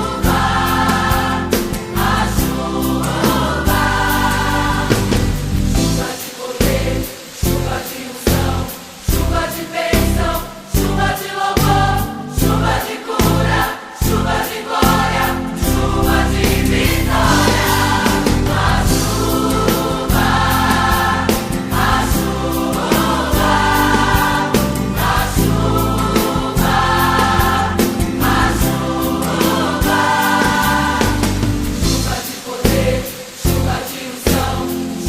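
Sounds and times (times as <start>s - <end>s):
band playing steady beat: 0.0s - 34.8s
choir singing: 0.0s - 35.0s.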